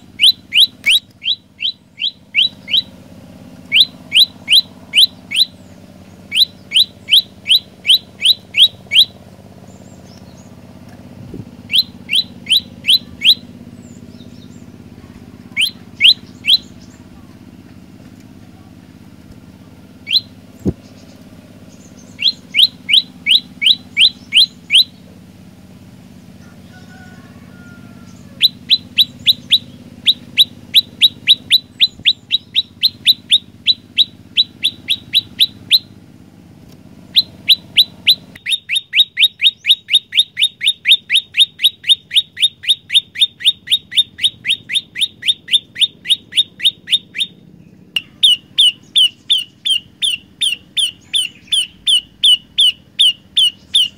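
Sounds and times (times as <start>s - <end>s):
bird singing sharp repeated notes: 0.0s - 17.7s, 19.5s - 25.3s, 28.0s - 36.0s, 37.0s - 53.9s.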